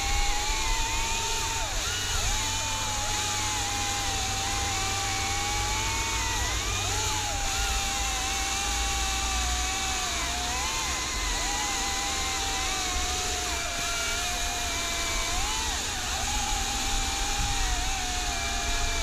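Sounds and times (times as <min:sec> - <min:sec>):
chainsaws cutting logs: 0:00.0 - 0:19.0.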